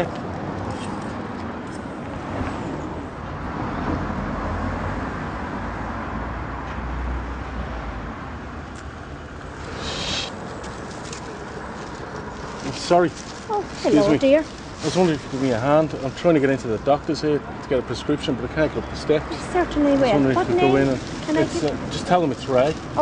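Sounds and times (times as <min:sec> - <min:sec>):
hum of road vehicles: 0:00.0 - 0:23.0
vehicle passing rumble: 0:00.0 - 0:23.0.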